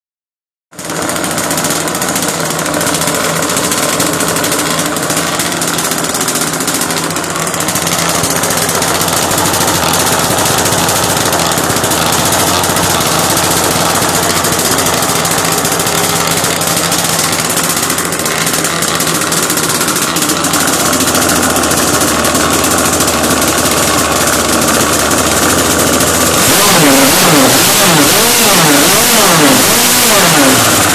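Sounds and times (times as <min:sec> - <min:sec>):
two-stroke engine running: 0:00.7 - 0:30.9.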